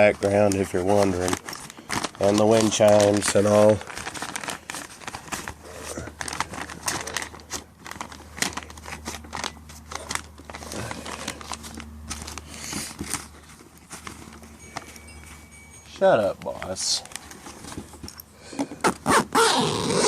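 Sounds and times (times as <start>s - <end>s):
paper bag crinkling: 0.0s - 18.1s.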